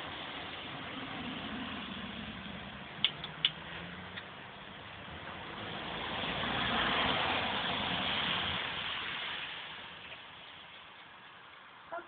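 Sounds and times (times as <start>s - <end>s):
car tyres hissing on wet road: 0.0s - 2.8s, 3.6s - 11.6s.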